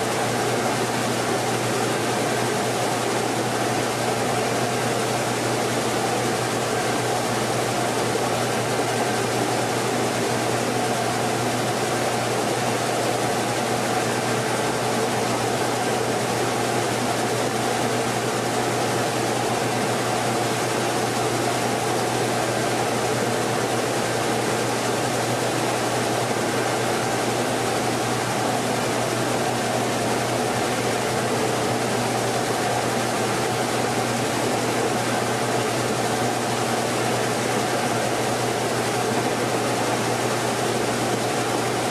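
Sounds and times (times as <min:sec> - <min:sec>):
husking machine running: 0:00.0 - 0:41.9.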